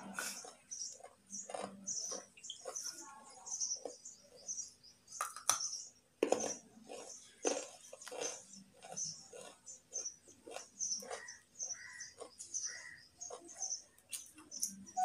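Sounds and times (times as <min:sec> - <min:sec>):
raw carrot crunching: 0:00.0 - 0:15.0.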